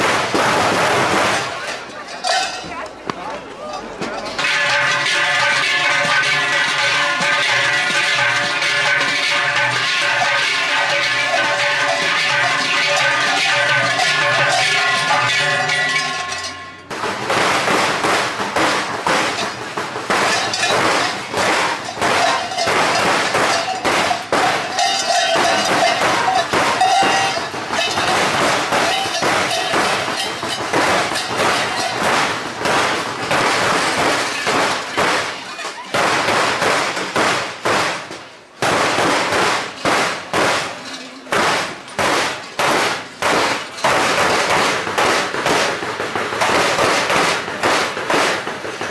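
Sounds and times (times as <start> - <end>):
bells and metal clanging: 0.0 - 48.9
large cowbells ringing: 0.1 - 36.6, 38.0 - 48.9.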